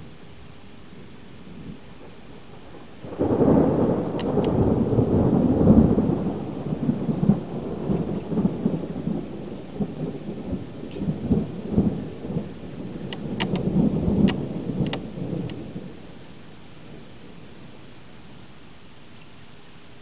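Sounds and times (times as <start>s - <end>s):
rolling thunder: 1.6s - 17.8s.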